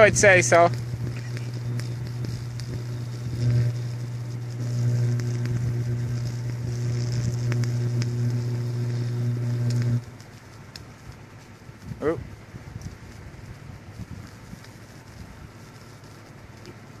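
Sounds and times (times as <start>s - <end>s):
electrical arc crackles: 0.0s - 17.0s
power line electrical buzz: 0.0s - 17.0s.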